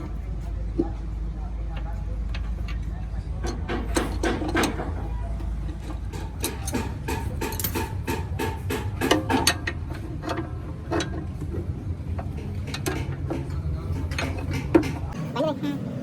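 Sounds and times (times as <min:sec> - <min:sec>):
metal parts clanking: 0:01.8 - 0:15.2.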